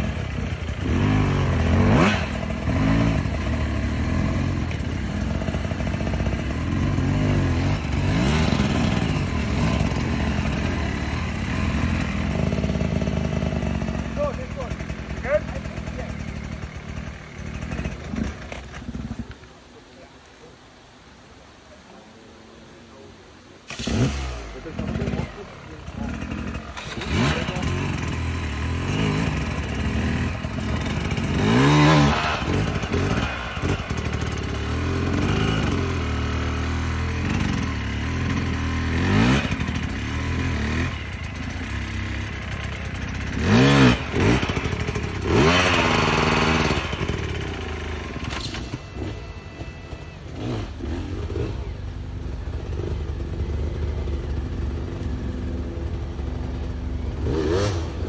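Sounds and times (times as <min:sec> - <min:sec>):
dirt bike engines revving: 0:00.0 - 0:19.4, 0:23.6 - 0:58.0.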